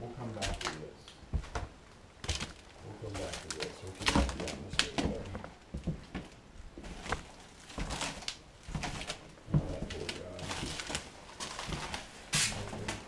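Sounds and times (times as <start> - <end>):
knocks and scuffs: 0.4 - 13.0.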